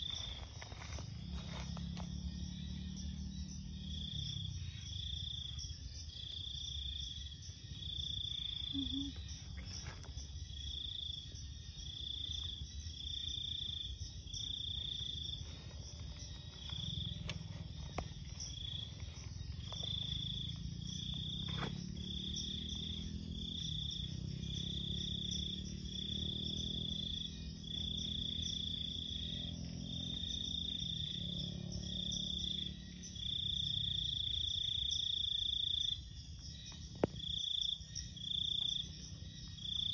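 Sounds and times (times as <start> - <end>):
crickets chirping: 0.0 - 39.9
high insect buzz: 0.0 - 39.9.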